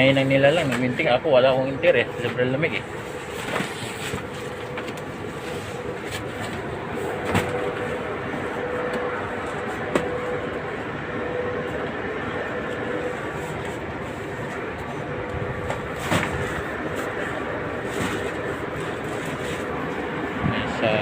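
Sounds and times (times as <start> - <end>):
machinery noise: 0.0 - 21.0.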